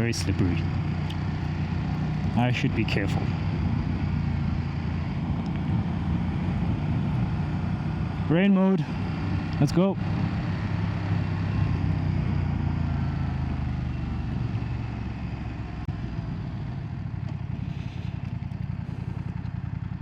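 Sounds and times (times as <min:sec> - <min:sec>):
motorcycle engine low pulse: 0:00.0 - 0:20.0.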